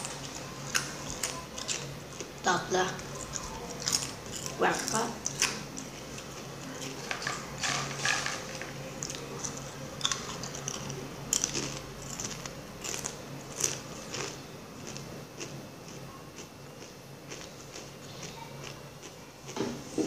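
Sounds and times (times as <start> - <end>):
person chewing crunchy food: 3.0 - 19.2.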